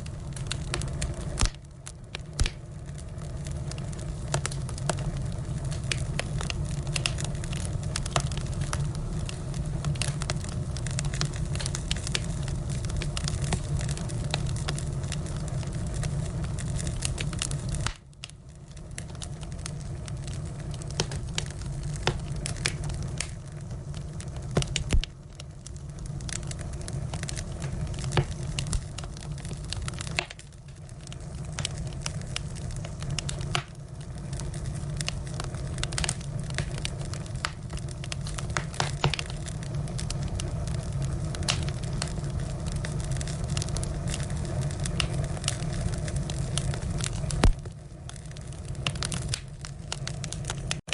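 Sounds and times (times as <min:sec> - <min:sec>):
low rumble of flames: 0:00.0 - 0:50.9
wood crackling and popping: 0:00.0 - 0:50.9.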